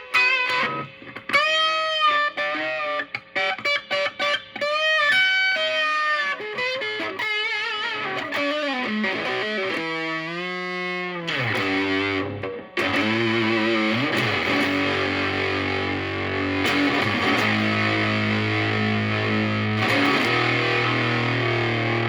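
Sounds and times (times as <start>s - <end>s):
fuzzed electric guitar notes: 0.0s - 22.0s.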